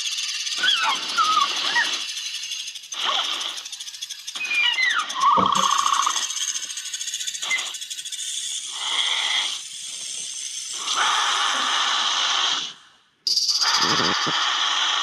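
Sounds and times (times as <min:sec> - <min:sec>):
snake hissing and rattling: 0:00.0 - 0:15.0.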